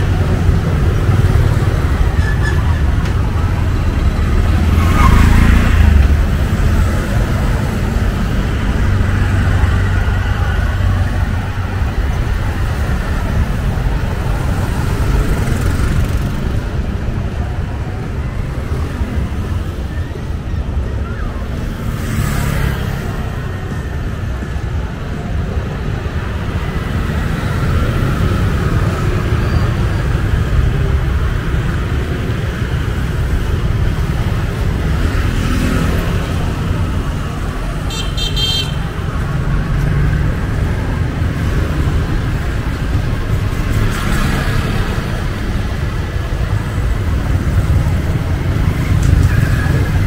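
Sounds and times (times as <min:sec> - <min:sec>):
passing motorbikes and cars: 0:00.0 - 0:50.0.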